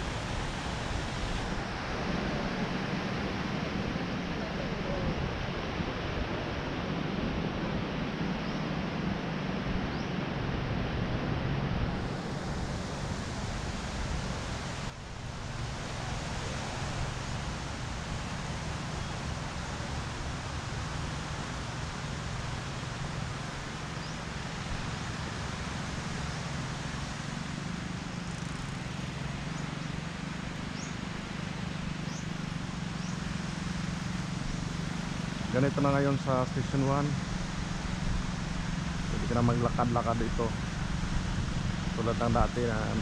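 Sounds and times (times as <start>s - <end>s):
distant surf: 0.0s - 43.0s
wind hiss: 0.0s - 43.0s.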